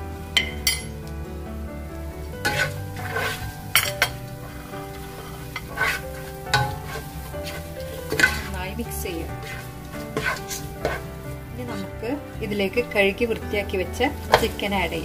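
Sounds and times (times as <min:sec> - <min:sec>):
onions frying in oil: 0:02.0 - 0:15.0
spatula scraping a pot: 0:02.2 - 0:15.0.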